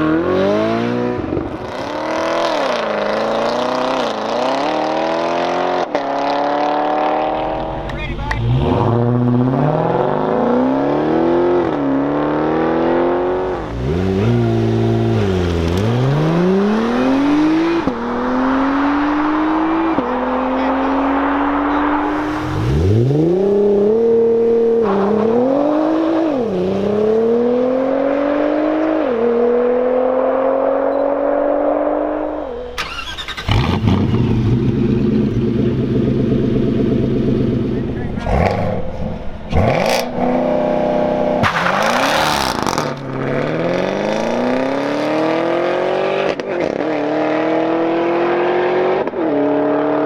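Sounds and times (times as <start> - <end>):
car engine accelerating hard: 0.0 - 50.0
car engine launching through gears: 0.0 - 50.0.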